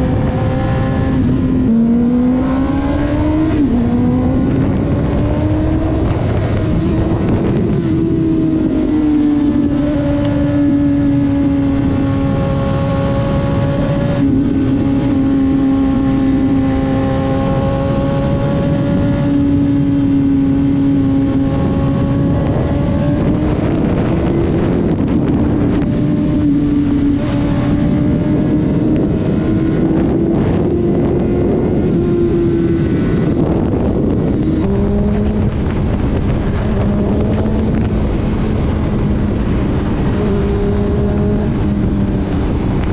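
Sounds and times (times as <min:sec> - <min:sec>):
road and wind noise: 0:00.0 - 0:42.9
vehicle engine at highway speed: 0:00.0 - 0:42.9.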